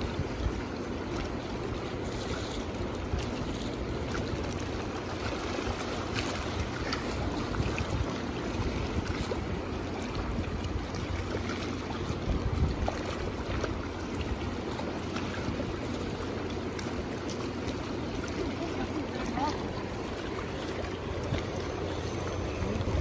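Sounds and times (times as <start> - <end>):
wind rumbling on microphone: 0.0 - 15.9, 19.4 - 23.0.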